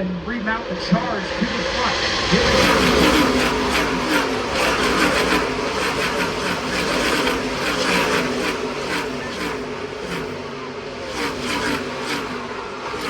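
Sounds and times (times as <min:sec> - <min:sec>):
race car engines passing: 0:01.8 - 0:13.0.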